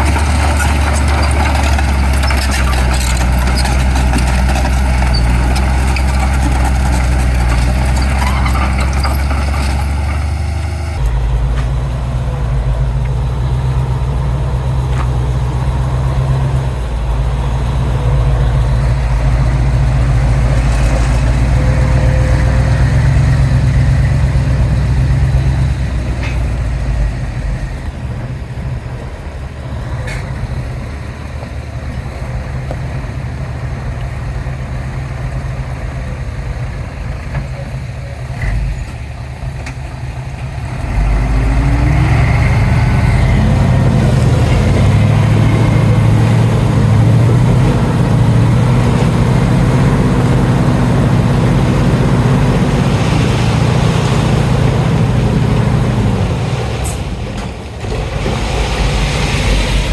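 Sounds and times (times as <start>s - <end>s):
heavy machinery diesel engines: 0.0s - 59.9s.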